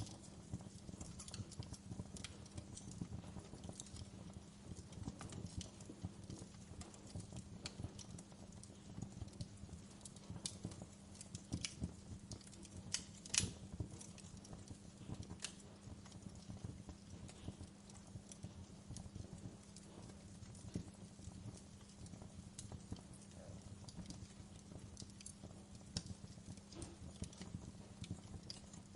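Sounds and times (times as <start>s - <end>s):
fire pops and snaps: 0.0s - 28.9s
wood fire crackling: 0.0s - 28.9s.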